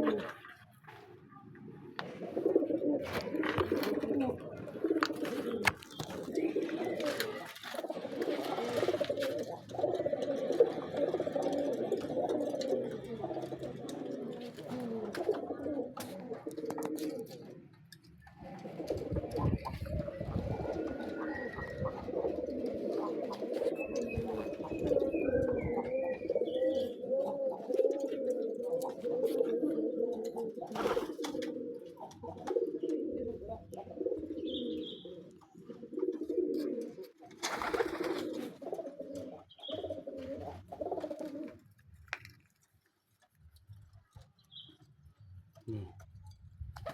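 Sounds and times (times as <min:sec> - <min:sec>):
pigeons cooing: 0:00.0 - 0:01.0, 0:01.6 - 0:41.8.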